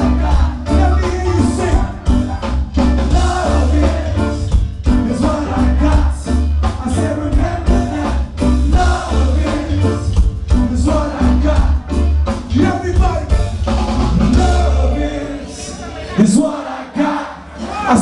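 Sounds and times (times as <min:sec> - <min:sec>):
live rock band: 0:00.0 - 0:18.0.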